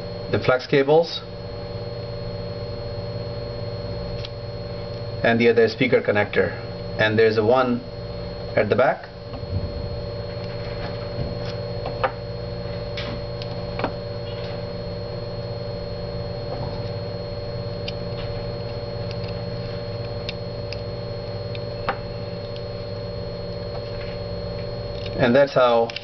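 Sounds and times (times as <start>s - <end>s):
electrical hum with high whine: 0.0s - 26.0s.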